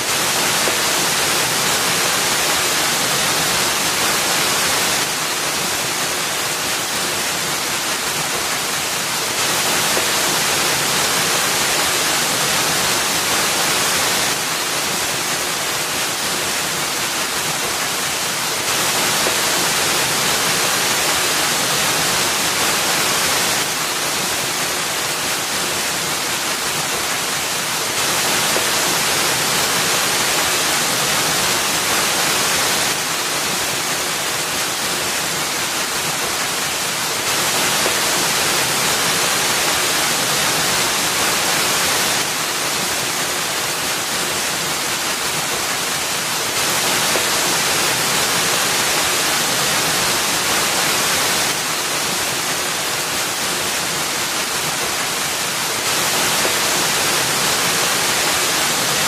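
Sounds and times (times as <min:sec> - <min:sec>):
waterfall splashing into pool: 0:00.0 - 0:59.0.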